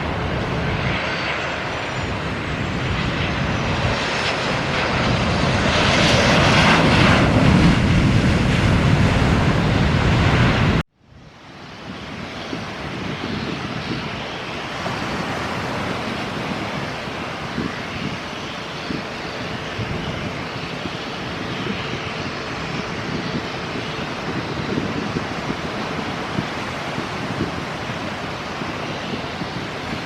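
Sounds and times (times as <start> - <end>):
airliner engine roar: 0.0 - 30.0
wind on microphone: 0.0 - 30.0
steady rushing noise: 1.6 - 30.0.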